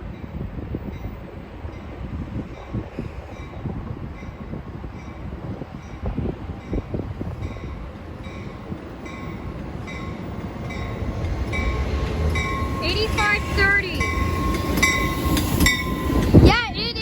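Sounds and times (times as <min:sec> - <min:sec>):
train rumble: 0:00.0 - 0:17.0
train warning bell ringing: 0:00.1 - 0:17.0.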